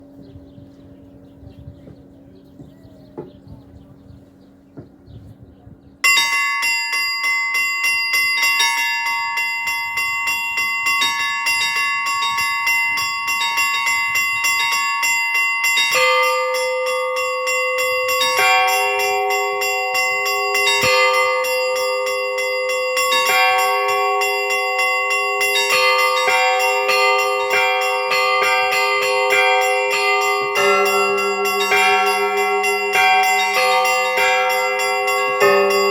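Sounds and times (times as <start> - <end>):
deep large bells: 6.0 - 35.9
small church bells ringing: 6.0 - 35.9.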